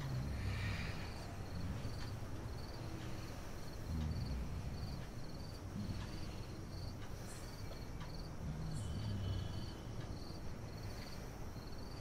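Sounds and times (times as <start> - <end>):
crickets chirping: 0.0 - 12.0
low rumble of room noise: 0.0 - 12.0.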